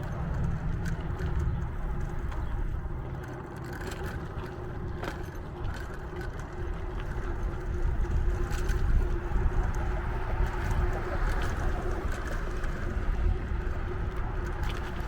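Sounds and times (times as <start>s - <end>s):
bicycle clicks and rattles: 0.0s - 15.0s
wind and road rumble: 0.0s - 15.0s.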